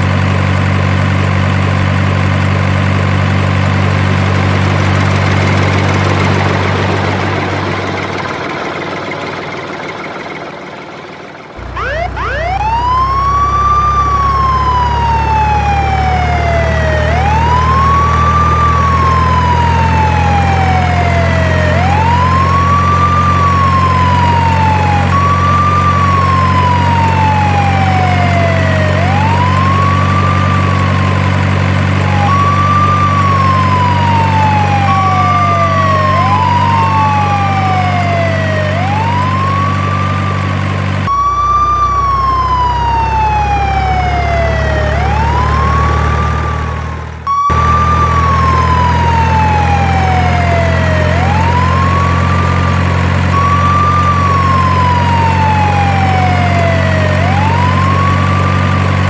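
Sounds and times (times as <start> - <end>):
low engine drone: 0.0 - 59.0
electronic siren wailing: 3.4 - 59.0.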